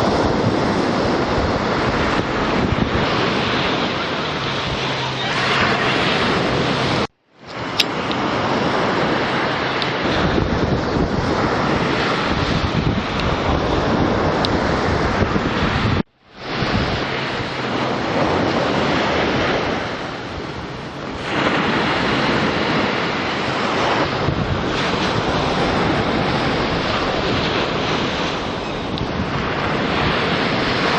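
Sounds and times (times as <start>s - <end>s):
sea surf breaking on shore: 0.0s - 30.9s
wind buffeting microphone: 0.0s - 30.9s.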